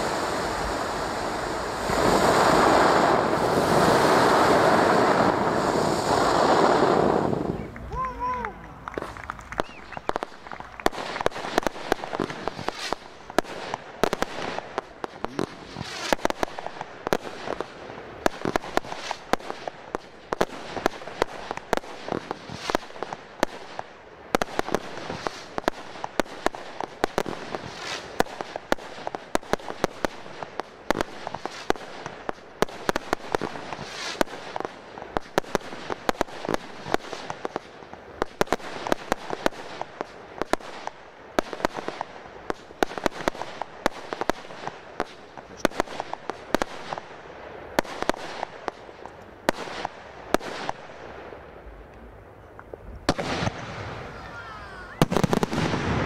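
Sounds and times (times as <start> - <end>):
fireworks banging: 0.0 - 56.0
fireworks popping and crackling: 0.0 - 56.0.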